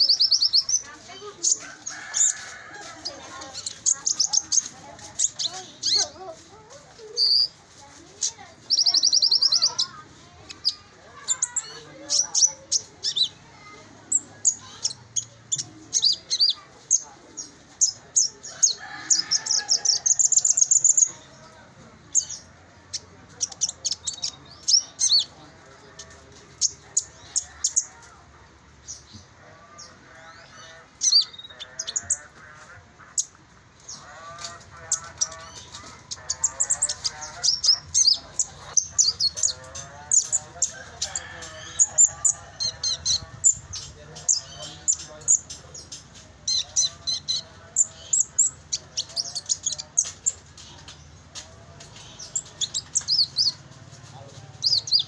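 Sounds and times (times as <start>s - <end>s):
other birds warbling: 0.0s - 28.2s, 28.8s - 55.0s.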